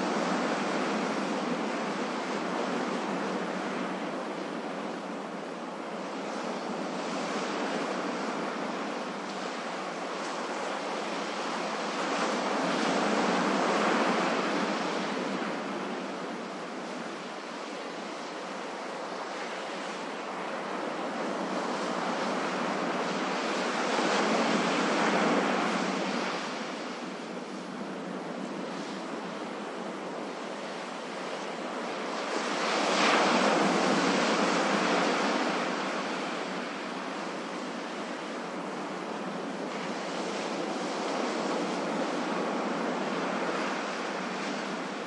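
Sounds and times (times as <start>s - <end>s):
ocean waves washing onto shore: 0.0s - 45.0s.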